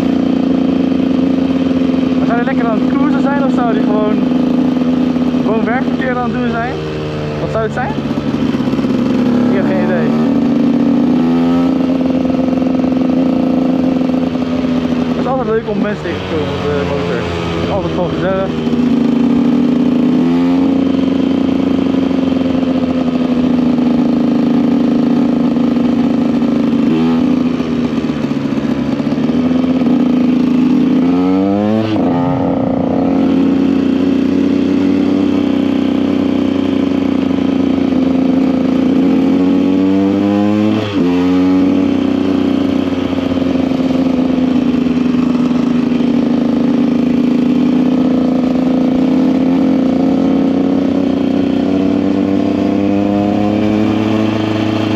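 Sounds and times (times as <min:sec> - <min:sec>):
two-stroke motorcycle engine running: 0:00.0 - 0:54.9.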